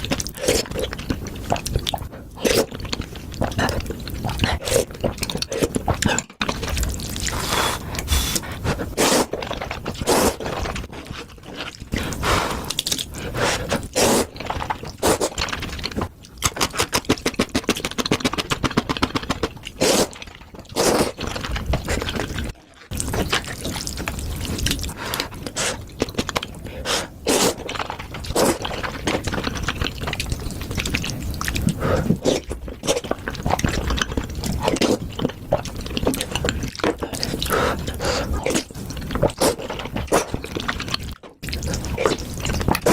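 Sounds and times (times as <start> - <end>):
wet chewing and slurping: 0.0 - 42.9.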